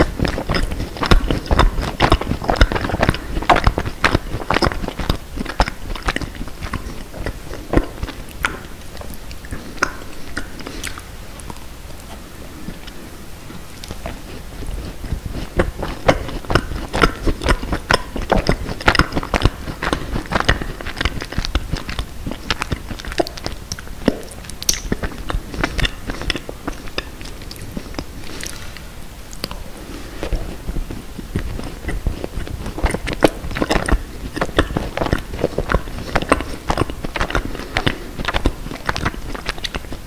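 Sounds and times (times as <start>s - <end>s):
wet mouth sounds: 0.0s - 40.0s.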